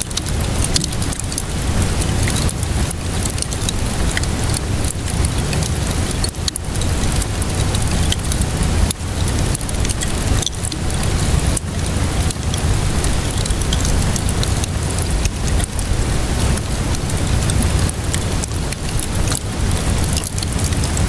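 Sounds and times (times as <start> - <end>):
steady rainfall: 0.0 - 21.0
wood fire crackling: 0.0 - 21.0.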